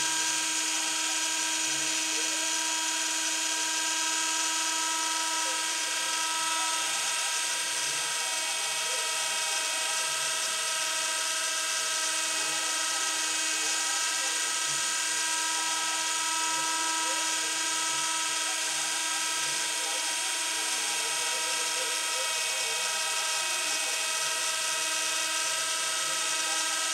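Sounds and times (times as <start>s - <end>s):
router spindle whining: 0.0s - 26.9s
stepper motors whirring: 0.0s - 26.9s.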